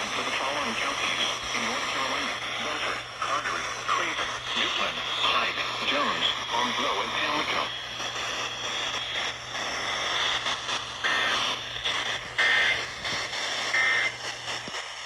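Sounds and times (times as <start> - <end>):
radio static: 0.0 - 15.0.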